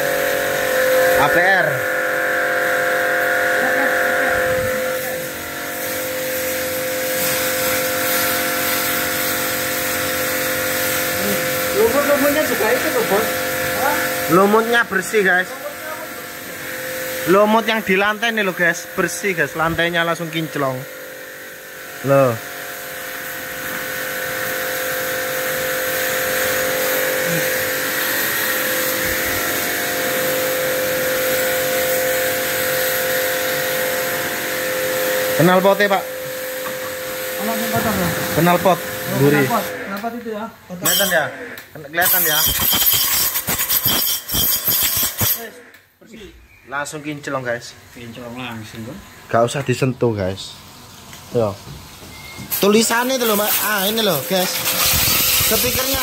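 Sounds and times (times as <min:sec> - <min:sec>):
pressure washer motor hum: 0:00.0 - 0:46.0, 0:46.8 - 0:56.0
water jet hissing: 0:03.2 - 0:20.8, 0:21.4 - 0:45.6, 0:46.8 - 0:56.0.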